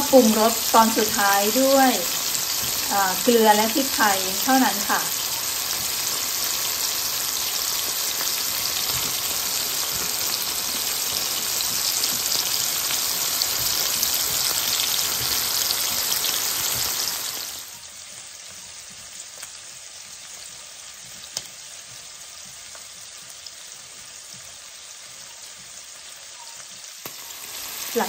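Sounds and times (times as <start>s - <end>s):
fish sizzling in butter: 0.0s - 28.0s.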